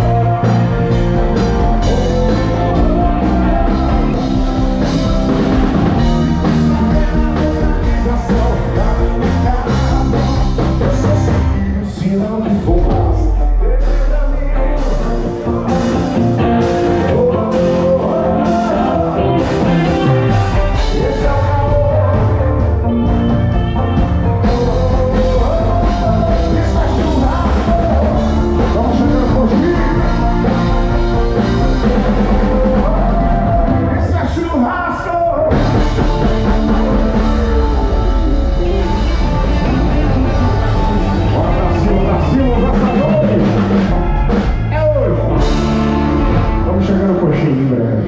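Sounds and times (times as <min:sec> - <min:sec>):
man singing with live band: 0:00.0 - 0:48.0.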